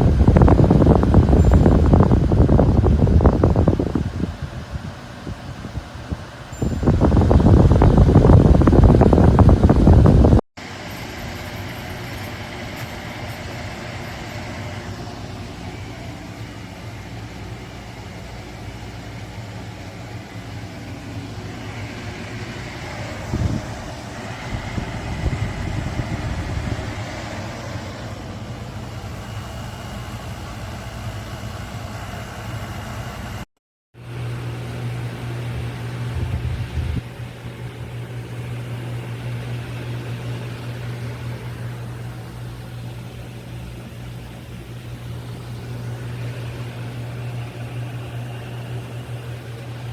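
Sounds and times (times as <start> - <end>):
air conditioner compressor hum: 0.0 - 49.9
air conditioner fan whoosh: 0.0 - 49.9.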